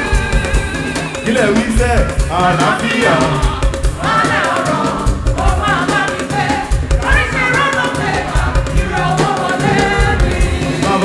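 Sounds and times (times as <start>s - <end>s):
drums and percussion: 0.0s - 11.0s
voices singing: 0.0s - 11.0s.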